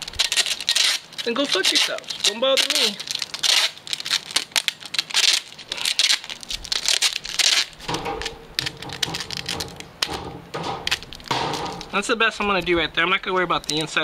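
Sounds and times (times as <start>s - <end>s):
packing tape pulled off roll: 0.0s - 12.0s
plastic bags crinkling: 0.0s - 14.0s.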